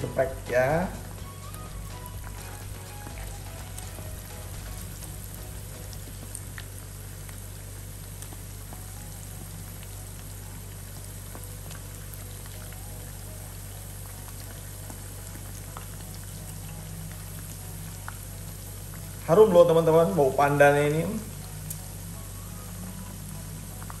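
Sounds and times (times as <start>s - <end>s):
oil sizzling and popping: 0.0s - 24.0s.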